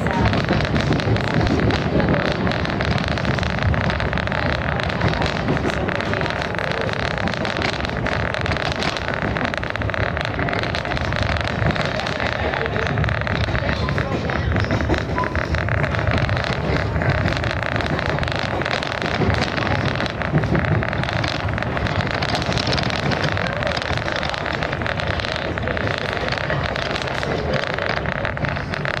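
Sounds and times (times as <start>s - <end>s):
train wheels rumbling and clicking: 0.0s - 29.0s.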